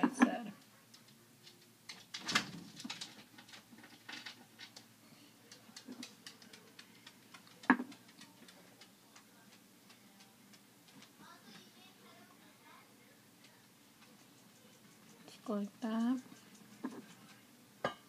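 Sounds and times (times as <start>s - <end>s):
small clicks and ticks: 0.6s - 11.7s, 13.4s - 17.5s.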